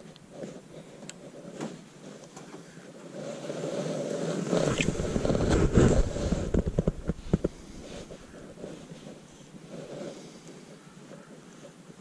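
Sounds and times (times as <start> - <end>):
clothing rustle on microphone: 0.0 - 12.0.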